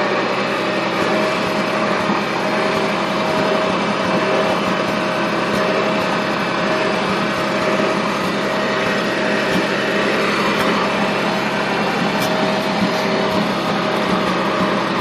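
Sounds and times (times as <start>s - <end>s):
tractor engine drone and whine: 0.0s - 15.0s.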